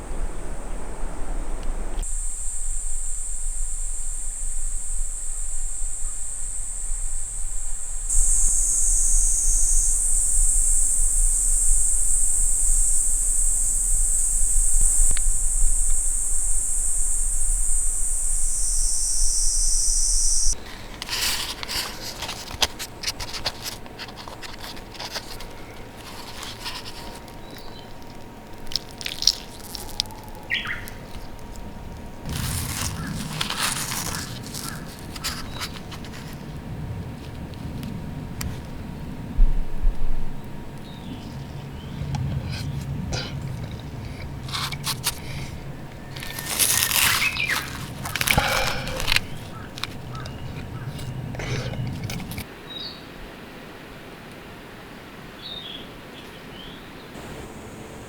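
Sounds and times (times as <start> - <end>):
insects shrilling: 0.0 - 37.4, 40.8 - 52.5
rustling: 0.0 - 38.7, 41.1 - 52.5.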